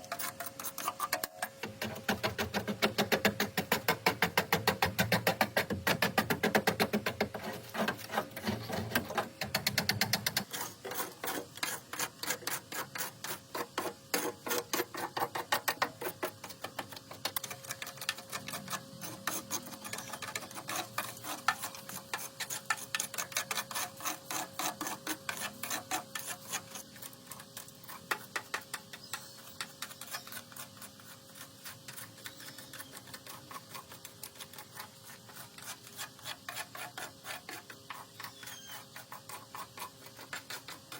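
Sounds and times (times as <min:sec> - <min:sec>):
hand tool scraping metal: 0:00.0 - 0:40.9.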